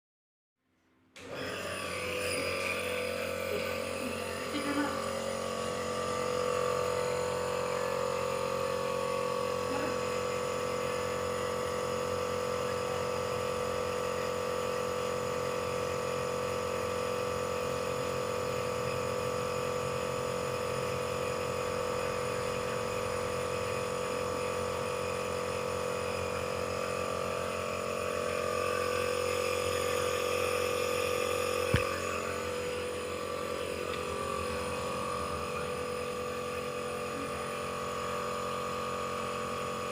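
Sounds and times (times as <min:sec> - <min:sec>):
nebulizer humming: 0:01.2 - 0:39.9.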